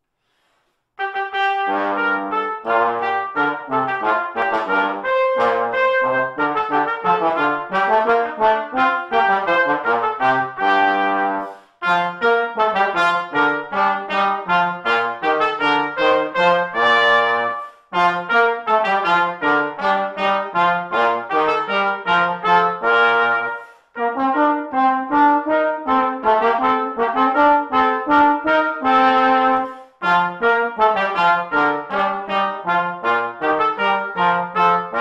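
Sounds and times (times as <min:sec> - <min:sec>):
trombone playing lower line: 0:01.0 - 0:35.0
trumpet playing hymn melody: 0:01.0 - 0:35.0.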